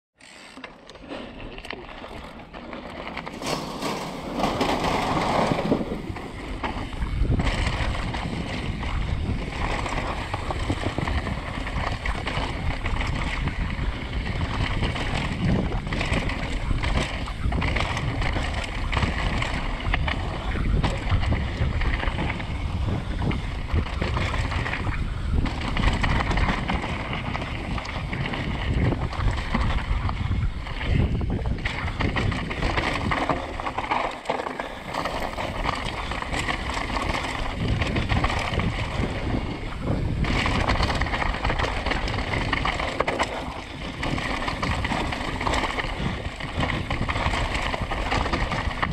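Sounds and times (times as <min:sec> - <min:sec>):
bike rattling and knocking: 0:00.2 - 0:48.9
tyres rumbling on gravel: 0:01.2 - 0:48.9
wind buffeting microphone: 0:03.2 - 0:48.9.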